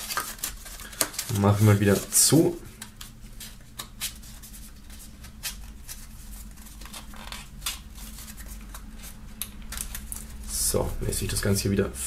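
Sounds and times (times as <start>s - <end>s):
paper and card rustling: 0.0s - 10.8s.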